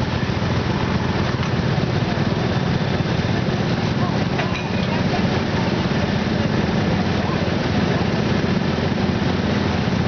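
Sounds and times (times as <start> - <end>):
garden tractor engine running: 0.0 - 10.0.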